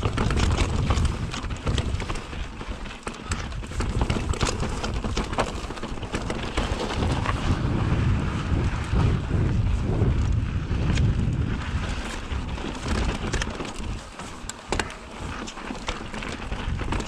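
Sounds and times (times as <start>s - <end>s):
bike rattling clicks: 0.0s - 17.0s
bike tyres rumbling on rock: 0.0s - 17.0s
wind buffeting microphone: 0.0s - 17.0s.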